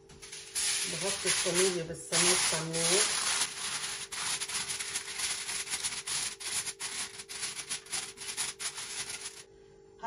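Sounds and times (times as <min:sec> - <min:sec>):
aluminium foil crinkling: 0:00.2 - 0:09.5.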